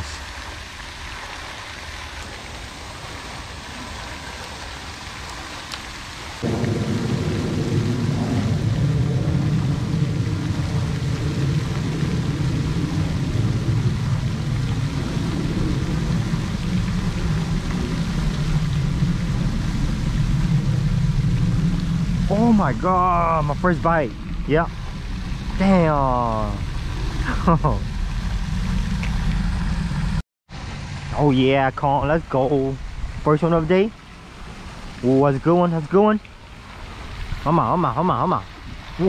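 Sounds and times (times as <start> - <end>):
fountain splashing on water: 0.0 - 39.0
wind rumbling on microphone: 0.0 - 39.0
low rumble: 6.4 - 39.0.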